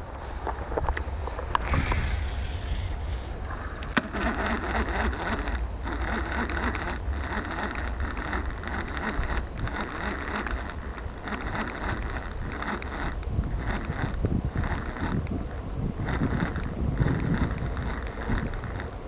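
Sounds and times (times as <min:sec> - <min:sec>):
fishing reel gear whirring: 0:00.0 - 0:19.0
wind rumble on microphone: 0:00.0 - 0:19.0.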